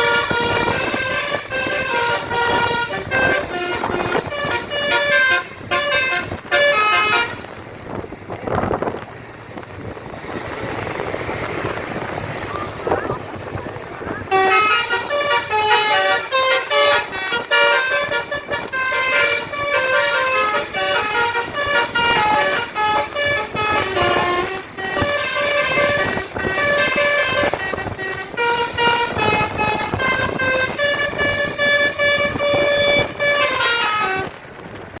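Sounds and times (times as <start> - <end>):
multi-tone bus horn melody: 0.0 - 8.1, 11.7 - 35.0.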